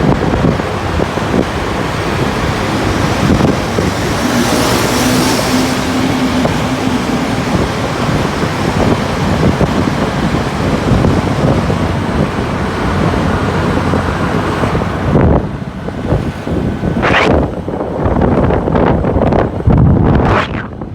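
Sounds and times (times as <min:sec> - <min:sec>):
scooter road noise: 0:00.0 - 0:20.9
wind rushing over microphone: 0:00.0 - 0:20.9.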